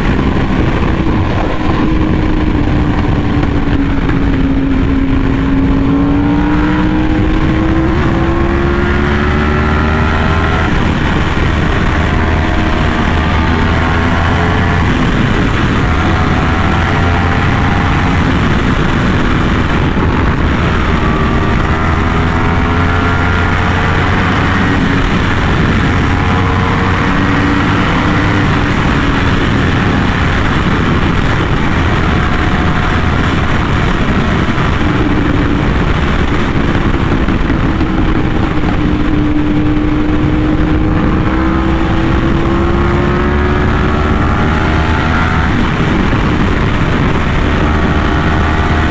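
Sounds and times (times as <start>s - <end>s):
motorcycle engine cruising: 0.0s - 48.9s
steady rushing noise: 0.0s - 48.9s.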